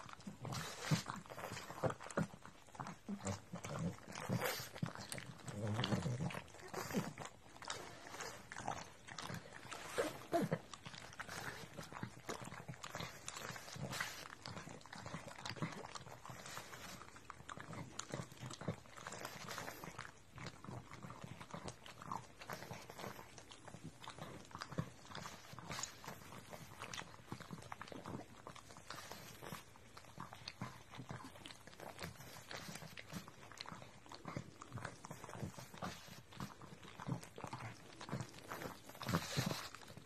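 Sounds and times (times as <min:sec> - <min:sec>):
dogs licking wet smacking noises: 0:00.0 - 0:40.0.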